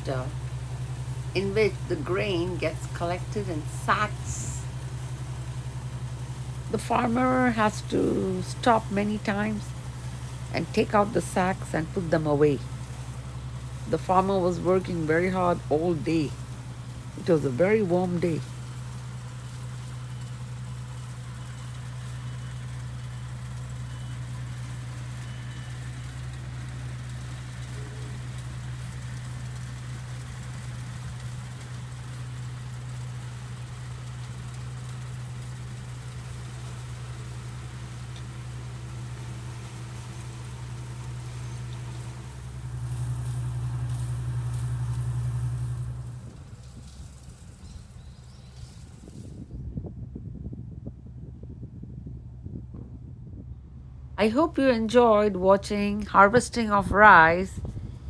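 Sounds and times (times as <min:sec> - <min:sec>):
harvester engine running: 0:00.0 - 0:58.0.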